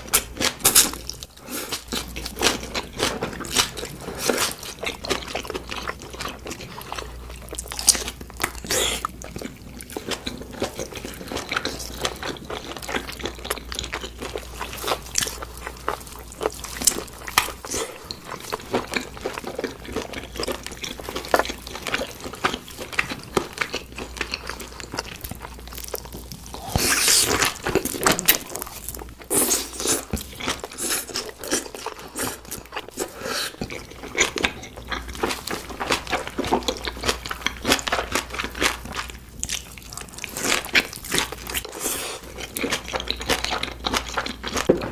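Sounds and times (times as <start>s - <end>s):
chewing with wet mouth clicks: 0.1s - 44.7s.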